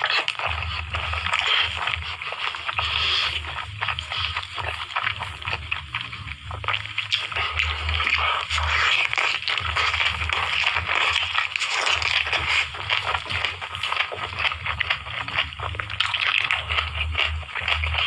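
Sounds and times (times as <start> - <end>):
close chewing with crunches: 0.0 - 18.0
steady low hum: 0.0 - 18.0.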